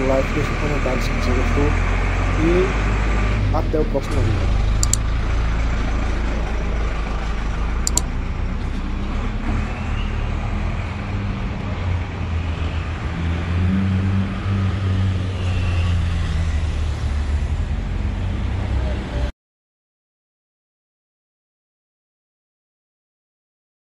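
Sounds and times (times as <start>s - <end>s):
rumble of passing traffic: 0.0s - 19.3s
vehicle engine humming: 0.0s - 19.3s.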